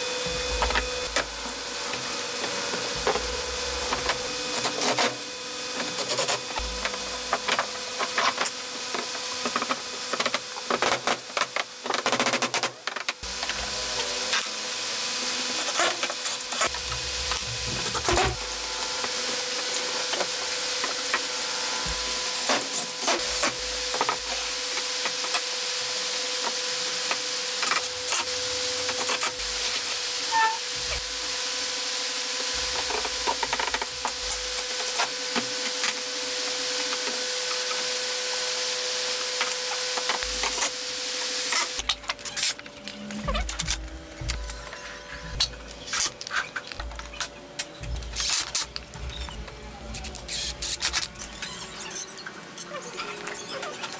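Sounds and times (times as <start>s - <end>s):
steady hum: 0.0s - 53.9s.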